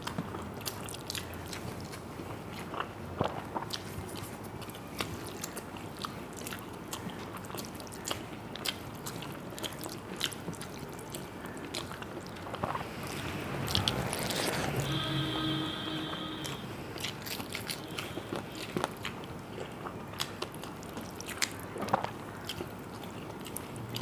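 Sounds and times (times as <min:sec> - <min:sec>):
person chewing and biting: 0:00.0 - 0:14.9, 0:16.4 - 0:24.0.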